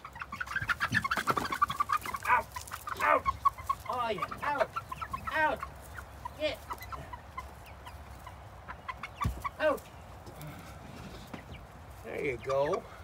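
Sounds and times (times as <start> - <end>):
chicken calling: 0.0 - 13.0
chickens clucking and peeping: 0.0 - 13.0.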